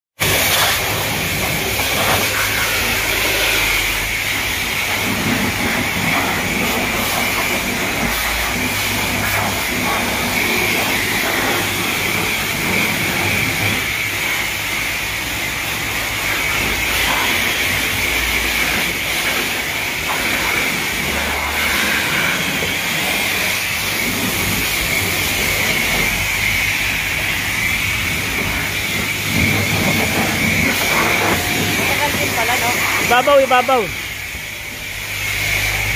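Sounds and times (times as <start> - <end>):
high-pressure water spray hissing: 0.2 - 35.9.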